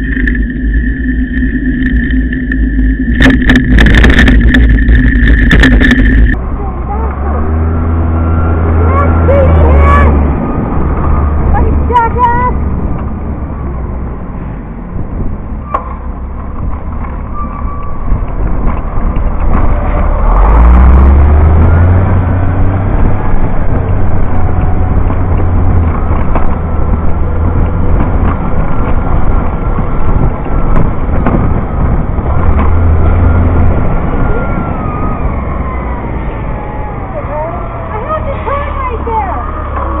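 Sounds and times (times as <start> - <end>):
garbage truck engine revving: 0.0 - 11.9, 19.3 - 40.0.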